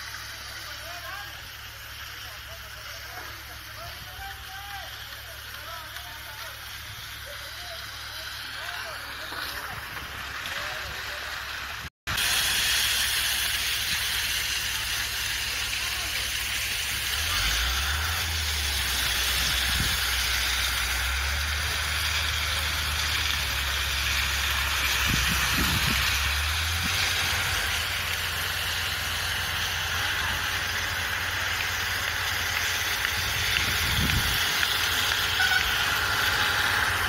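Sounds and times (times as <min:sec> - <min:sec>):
hiss over concrete: 0:00.0 - 0:37.0
power trowel humming: 0:05.0 - 0:37.0.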